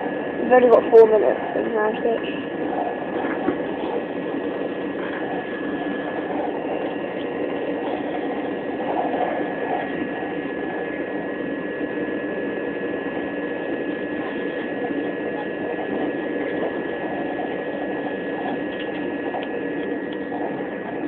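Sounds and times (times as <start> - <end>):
high whine: 0.0 - 21.0.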